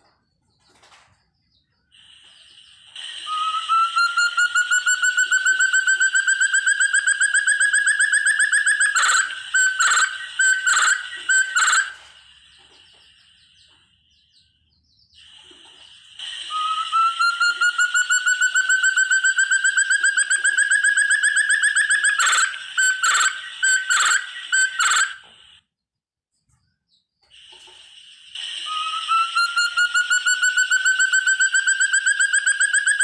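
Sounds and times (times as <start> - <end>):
partridge whistled calls: 1.6 - 25.6, 27.3 - 33.0.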